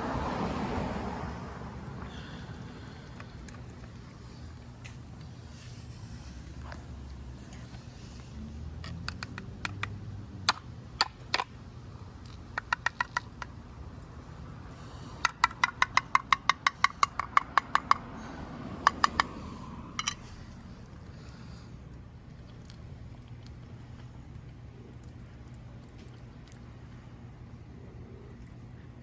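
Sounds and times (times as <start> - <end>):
cat eating with sharp clicks: 0.7 - 5.4, 6.2 - 29.0.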